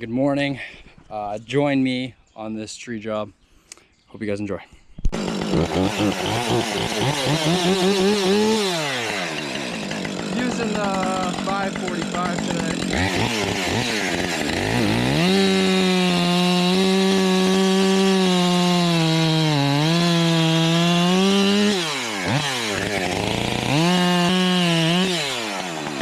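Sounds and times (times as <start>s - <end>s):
chainsaw revving: 5.1s - 26.0s.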